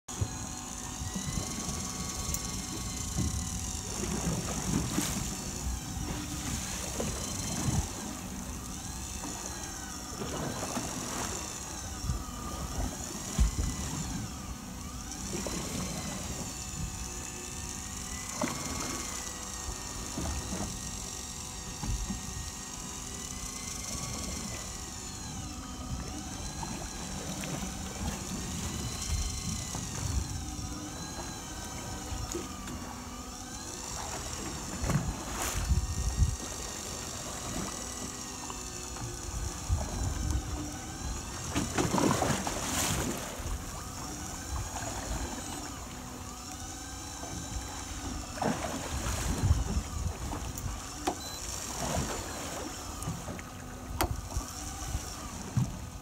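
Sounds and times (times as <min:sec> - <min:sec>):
boat motor whining: 0:00.1 - 0:56.0
water rumbling against boat: 0:00.1 - 0:56.0.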